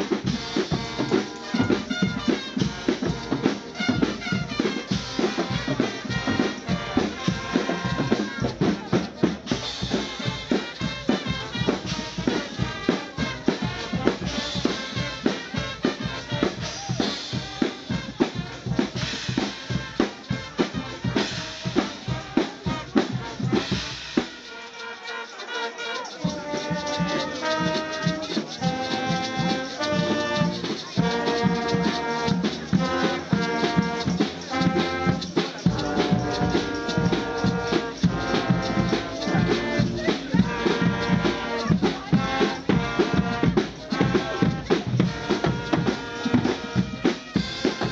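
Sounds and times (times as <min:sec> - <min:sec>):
brass holding notes: 0:00.0 - 0:47.9
drums beating fast rhythm: 0:00.0 - 0:47.9.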